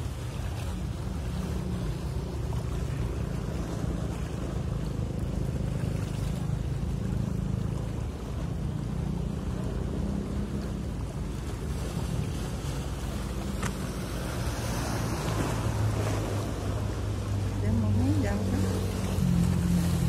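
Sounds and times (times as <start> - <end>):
ship engine rumble: 0.0 - 20.0
water washing: 0.0 - 20.0.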